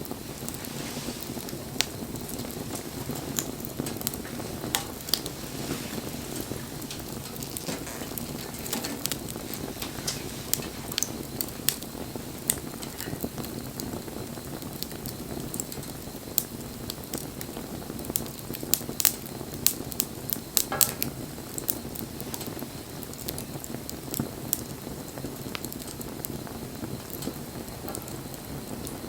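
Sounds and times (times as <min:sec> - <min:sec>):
fire hiss: 0:00.0 - 0:29.0
low rush of flames: 0:00.0 - 0:29.0
wood fire crackling and popping: 0:00.0 - 0:29.0.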